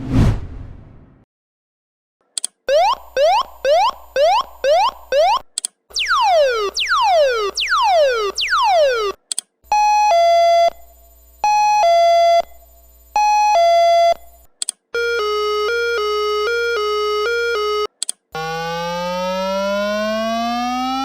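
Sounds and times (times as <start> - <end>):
fast alternating two-tone alarm: 2.7 - 5.4, 6.0 - 14.2, 15.0 - 21.0.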